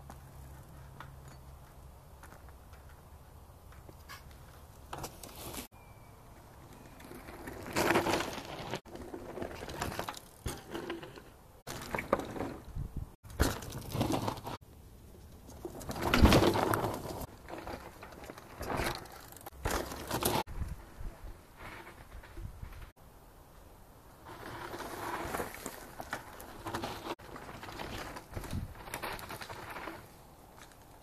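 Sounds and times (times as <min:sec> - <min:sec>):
bike tyres over roots and gravel: 0:00.0 - 0:31.0.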